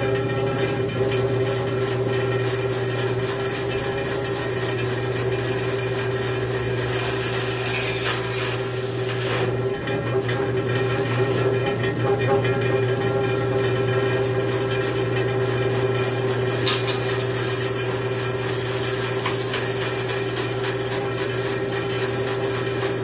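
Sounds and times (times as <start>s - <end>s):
bandsaw motor and blade hum: 0.0s - 23.0s.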